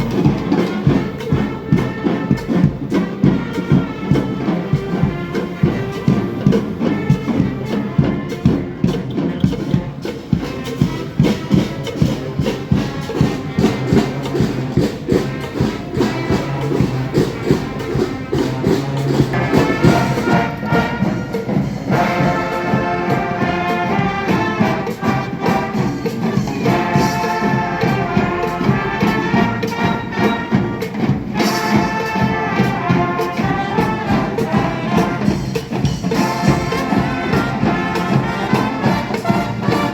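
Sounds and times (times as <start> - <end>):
drums keeping steady beat: 0.0 - 39.9
higher brass melody: 0.0 - 39.9
marching band playing: 0.0 - 39.9.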